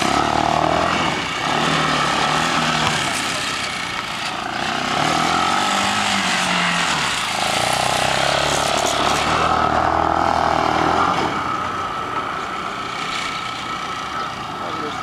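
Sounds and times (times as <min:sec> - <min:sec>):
quad engine running: 0:00.0 - 0:15.0.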